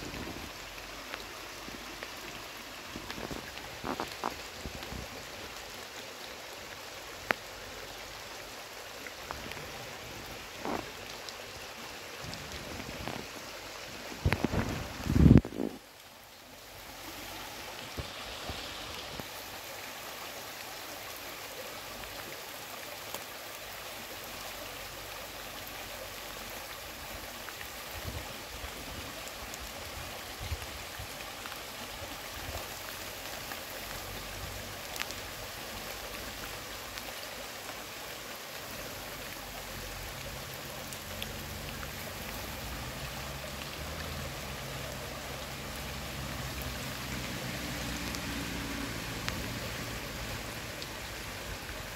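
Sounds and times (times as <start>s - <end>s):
rain falling on leaves: 0.0s - 51.9s
stream rushing: 0.0s - 51.9s.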